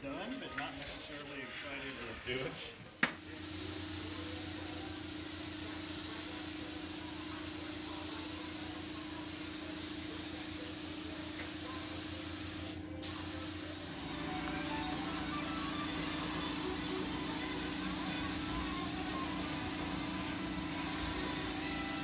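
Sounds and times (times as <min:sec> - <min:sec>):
paint spray gun hissing: 0:03.0 - 0:22.0.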